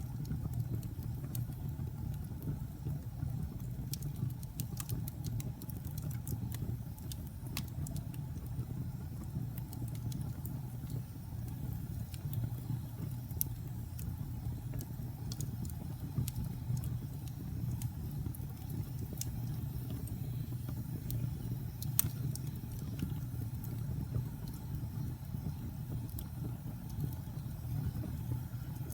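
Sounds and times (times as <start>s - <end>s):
fire pops and snaps: 0.0s - 28.9s
wood fire crackling: 0.0s - 28.9s.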